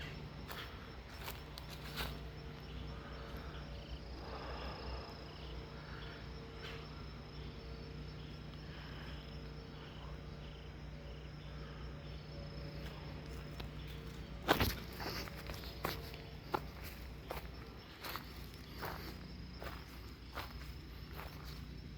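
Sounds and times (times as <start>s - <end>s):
insects trilling: 0.0s - 21.9s
soft repeating insect calls: 0.0s - 21.9s.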